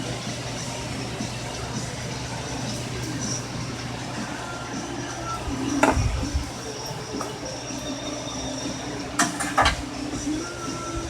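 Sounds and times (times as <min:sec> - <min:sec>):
forge blower humming: 0:00.0 - 0:11.0.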